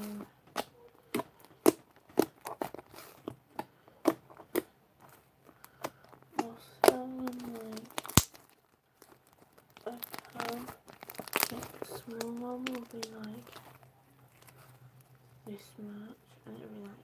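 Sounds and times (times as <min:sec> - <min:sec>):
slime squished by hand: 0:00.0 - 0:15.3.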